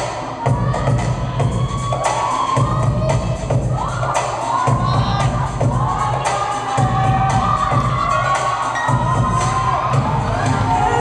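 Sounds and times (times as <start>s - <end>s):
crowd cheering and shouting: 0.0s - 11.0s
dance music with heavy bass: 0.0s - 11.0s.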